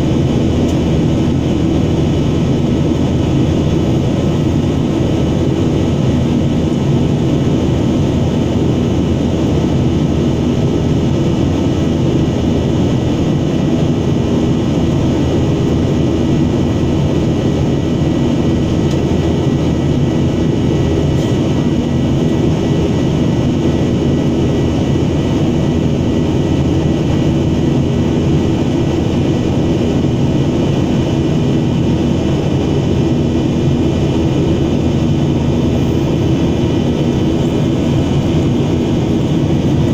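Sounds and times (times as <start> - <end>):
airliner engine drone in cabin: 0.0 - 39.9.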